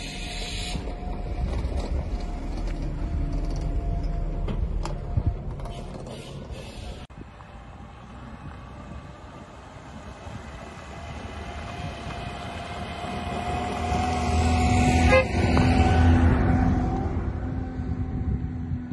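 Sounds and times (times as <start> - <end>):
car passing on dirt road: 0.0 - 18.9.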